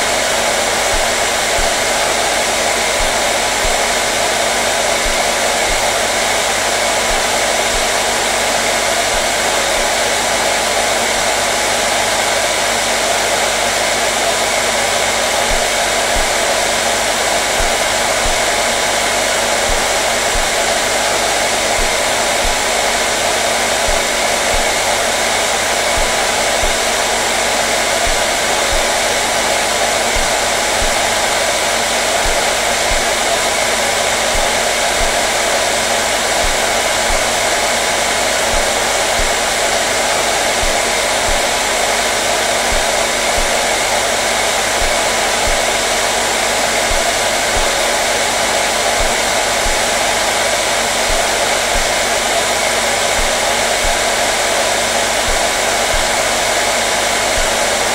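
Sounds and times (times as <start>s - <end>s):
hair dryer running: 0.0s - 57.9s.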